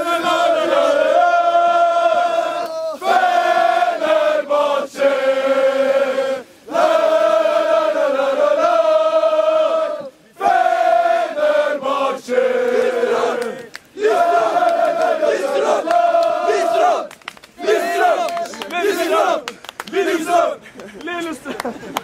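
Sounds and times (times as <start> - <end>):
men chanting in unison: 0.0 - 20.6.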